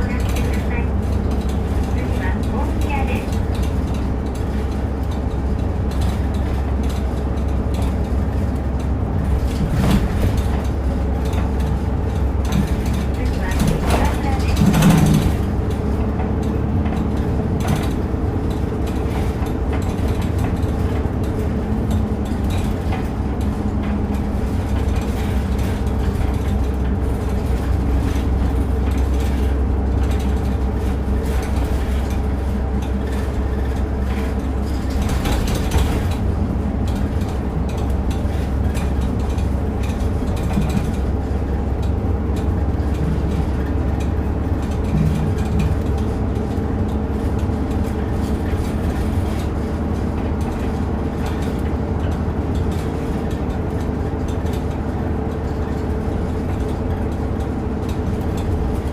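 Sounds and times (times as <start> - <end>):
bus engine drone: 0.0 - 58.9
road noise: 0.0 - 58.9.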